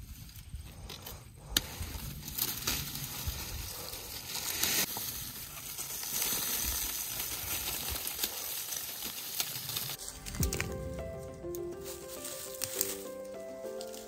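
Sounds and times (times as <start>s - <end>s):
dry corn stalks crackling and rustling: 0.0s - 14.0s.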